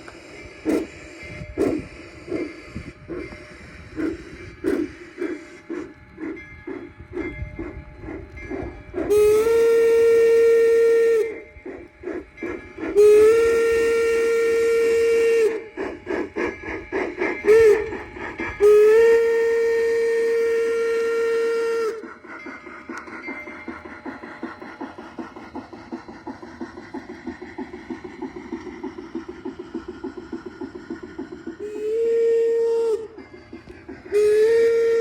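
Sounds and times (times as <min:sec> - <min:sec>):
model steam locomotive chuffs: 0:00.0 - 0:35.0.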